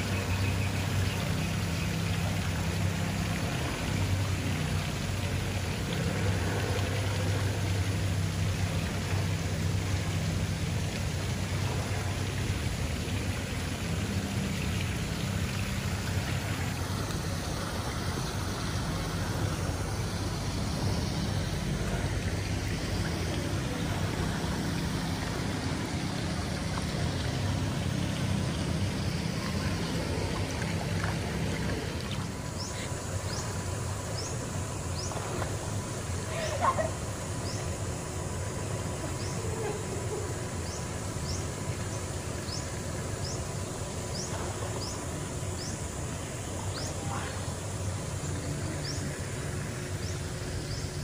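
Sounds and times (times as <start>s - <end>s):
water sloshing and trickling: 0.0s - 51.0s.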